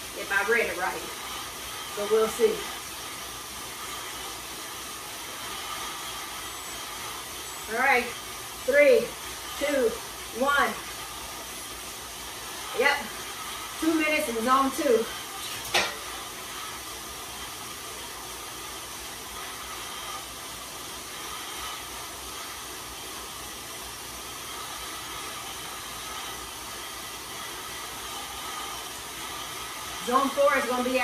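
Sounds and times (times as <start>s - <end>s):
bike tyres whirring on rollers: 0.0s - 31.0s.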